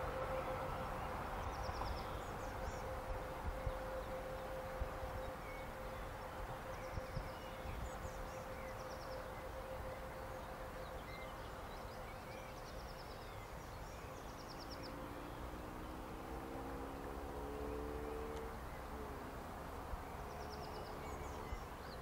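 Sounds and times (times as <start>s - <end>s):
small birds singing: 0.0s - 19.2s, 19.9s - 22.0s
faint steady hum: 0.0s - 22.0s.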